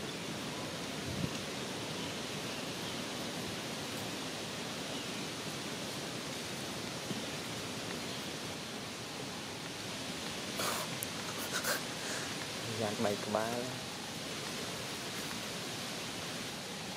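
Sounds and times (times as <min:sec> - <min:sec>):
outdoor background hiss: 0:00.0 - 0:16.9.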